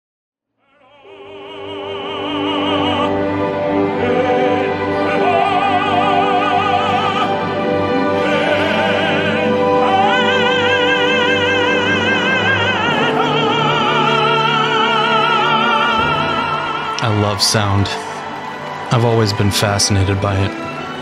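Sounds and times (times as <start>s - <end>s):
operatic singing: 0.6s - 21.0s
orchestral accompaniment: 1.1s - 21.0s.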